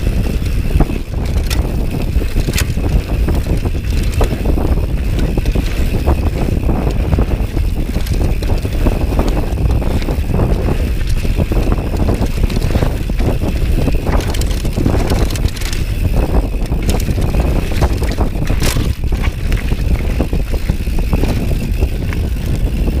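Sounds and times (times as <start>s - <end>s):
bike clattering over bumps: 0.0s - 23.0s
wind buffeting microphone: 0.0s - 23.0s
tyres rolling over dirt: 0.1s - 23.0s.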